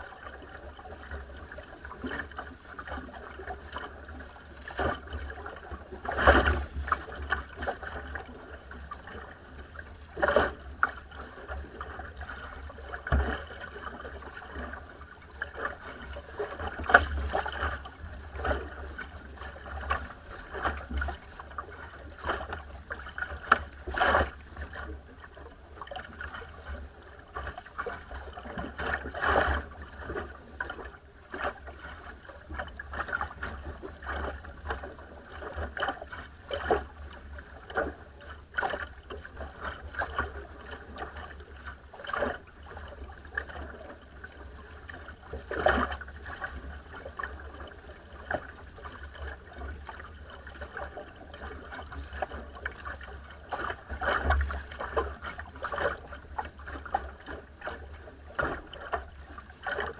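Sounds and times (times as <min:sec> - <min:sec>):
wind rumble on microphone: 0:00.0 - 0:50.0
hull slapping waves: 0:00.0 - 0:59.9
water rushing and splashing: 0:00.0 - 0:59.9.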